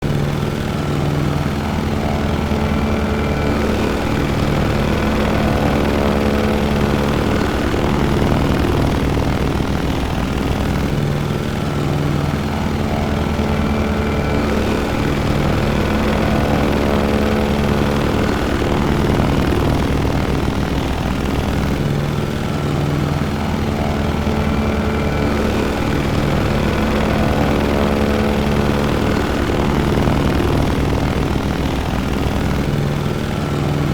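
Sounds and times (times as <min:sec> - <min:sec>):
propeller airplane engine drone: 0:00.0 - 0:33.9.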